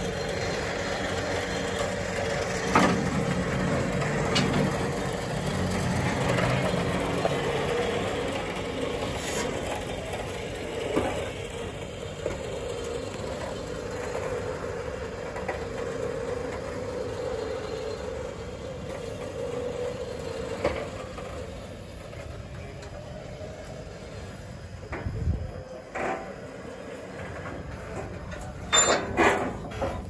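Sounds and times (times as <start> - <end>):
electric winch running: 0.0 - 30.0.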